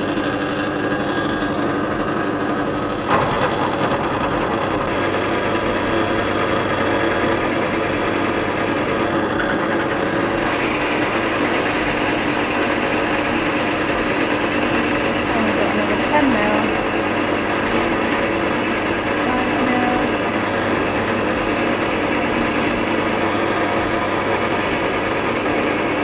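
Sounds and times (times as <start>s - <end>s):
drill press motor hum: 0.0s - 26.0s.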